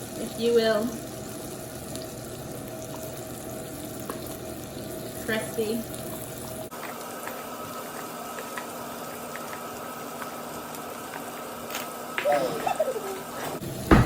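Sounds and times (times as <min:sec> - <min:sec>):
sprouts sizzling in butter: 0:00.0 - 0:12.2.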